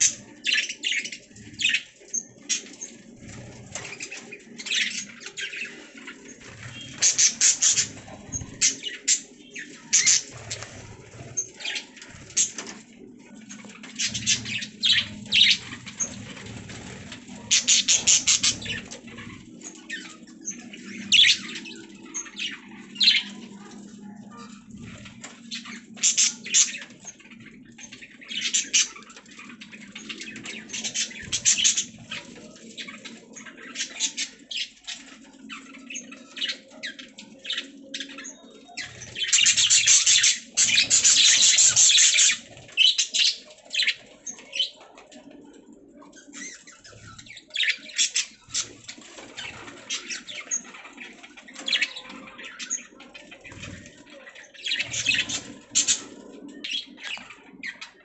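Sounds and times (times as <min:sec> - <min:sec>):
budgies chirping: 0:00.0 - 0:58.0.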